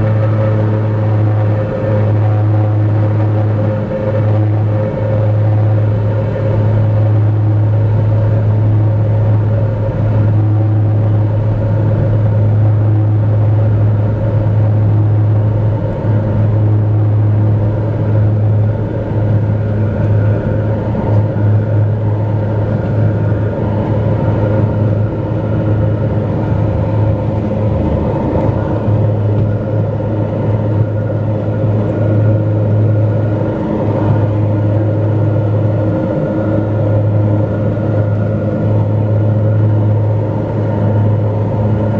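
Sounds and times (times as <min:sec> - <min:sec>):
propeller plane cabin drone: 0:00.0 - 0:41.9.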